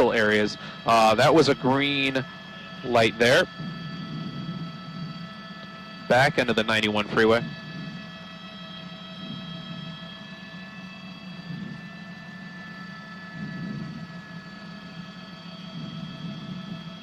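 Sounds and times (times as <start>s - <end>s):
helicopter cabin drone: 0.0s - 17.0s
turbine high whining tones: 0.0s - 17.0s.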